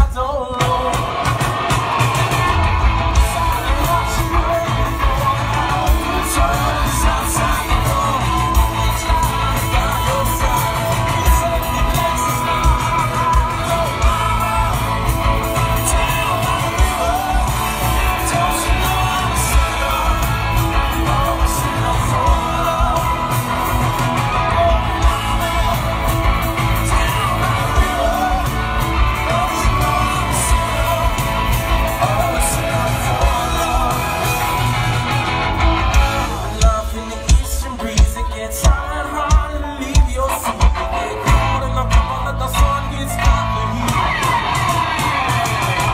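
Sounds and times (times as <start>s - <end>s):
bass guitar: 0.0s - 45.9s
drums: 0.0s - 45.9s
electric guitars: 0.0s - 45.9s
person singing: 0.0s - 45.9s.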